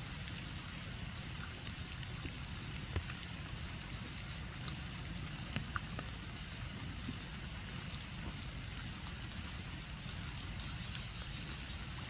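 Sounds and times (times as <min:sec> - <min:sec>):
raindrops on pond: 0:00.0 - 0:12.0.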